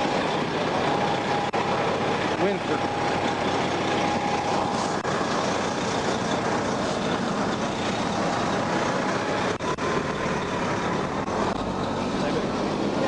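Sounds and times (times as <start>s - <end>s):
highway traffic passing: 0.0s - 13.0s.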